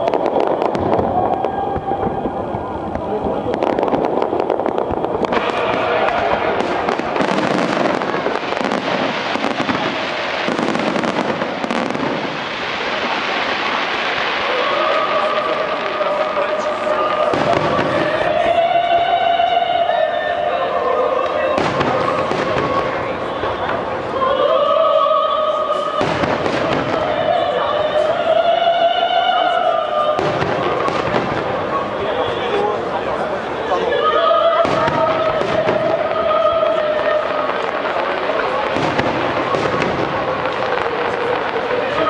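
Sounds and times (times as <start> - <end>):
continuous rushing noise: 0.0 - 42.0
fireworks crackling and popping: 0.0 - 42.0
operatic singing: 0.0 - 42.0.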